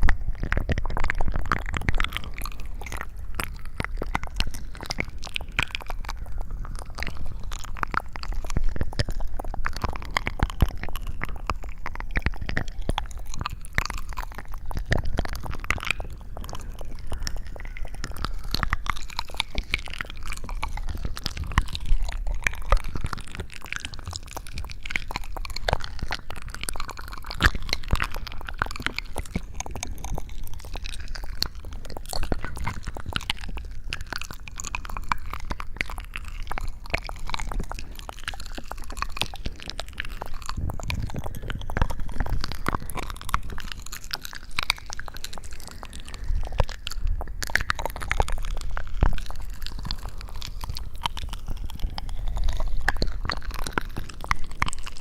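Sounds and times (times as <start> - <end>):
crackling and crunching clicks: 0.0 - 55.0
soft squishing: 0.0 - 55.0.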